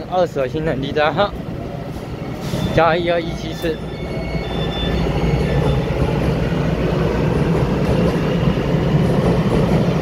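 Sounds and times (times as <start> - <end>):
electric train rumbling past: 0.0 - 10.0.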